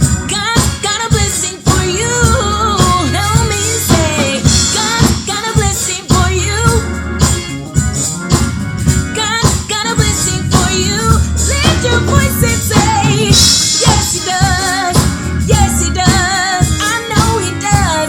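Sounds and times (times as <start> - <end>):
band with drum beat and bass: 0.0 - 18.0
voices singing gospel: 0.0 - 18.0.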